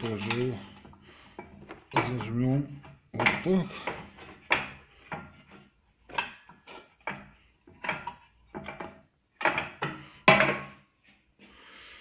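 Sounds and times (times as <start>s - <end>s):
metal clanks and knocks: 0.0s - 10.8s.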